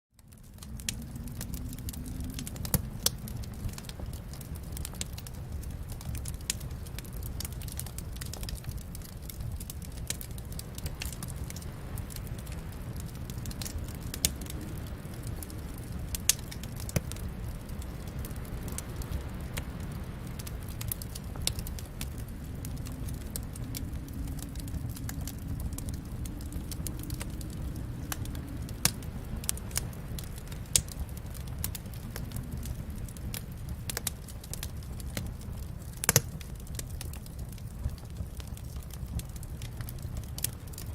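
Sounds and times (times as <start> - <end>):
fire flames rumbling: 0.1 - 40.9
burning wood crackling and popping: 0.2 - 40.9.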